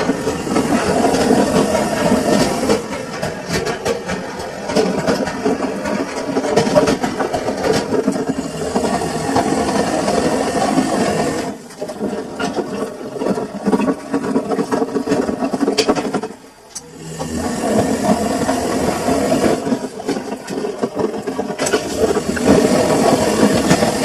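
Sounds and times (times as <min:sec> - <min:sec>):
washing machine churning: 0:00.0 - 0:24.0.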